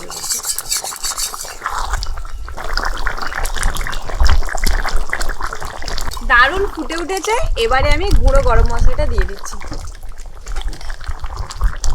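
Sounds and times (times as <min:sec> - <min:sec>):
curry bubbling in a pan: 0:00.0 - 0:11.9.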